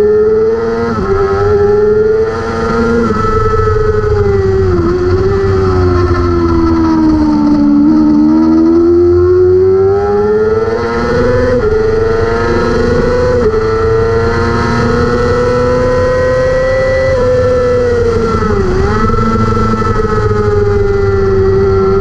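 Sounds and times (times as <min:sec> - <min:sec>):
motorcycle engine at racing speed: 0:00.0 - 0:22.0.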